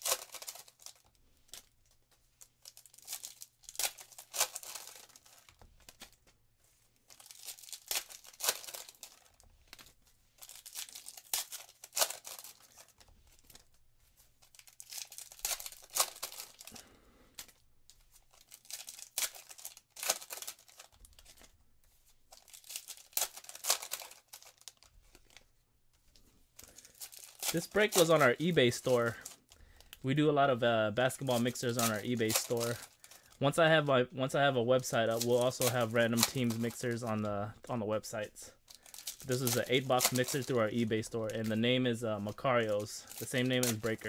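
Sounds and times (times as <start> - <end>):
foil packs tearing and crinkling: 0.0 - 1.7, 2.4 - 6.2, 7.1 - 13.6, 14.4 - 21.5, 22.3 - 25.4, 26.6 - 29.8, 31.0 - 33.4, 34.8 - 37.2, 38.7 - 44.0.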